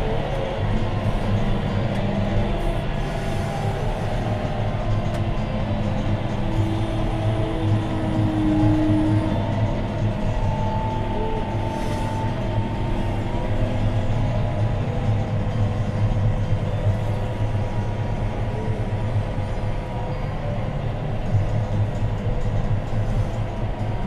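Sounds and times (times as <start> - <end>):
thin steady whine: 0.0 - 24.0.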